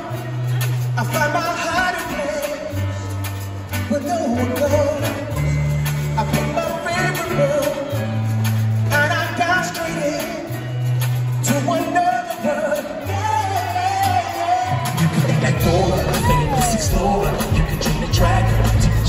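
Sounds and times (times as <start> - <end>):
live band music over loudspeakers: 0.0 - 19.0
person singing: 0.0 - 19.0.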